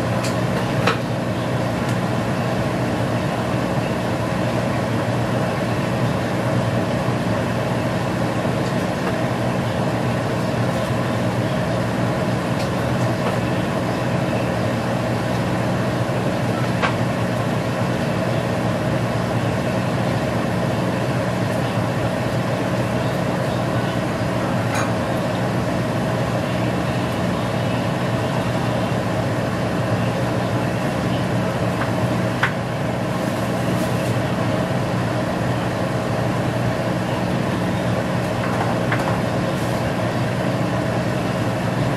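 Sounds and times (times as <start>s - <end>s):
steady mechanical hum: 0.0s - 41.9s.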